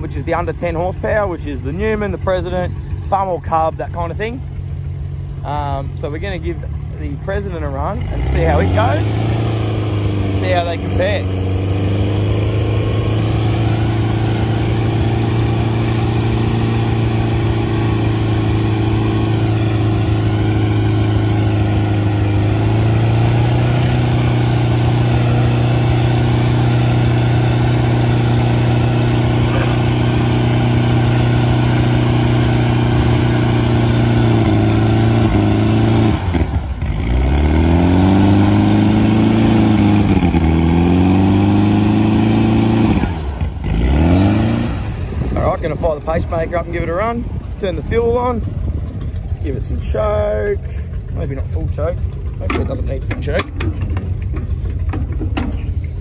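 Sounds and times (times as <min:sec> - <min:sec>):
garden tractor engine under load: 0:00.0 - 0:56.0.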